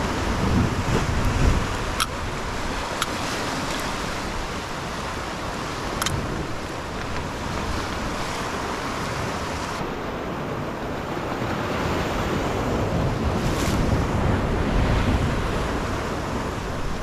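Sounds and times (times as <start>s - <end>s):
ocean surf over rocks: 0.0s - 17.0s
wind buffeting microphone: 0.0s - 17.0s.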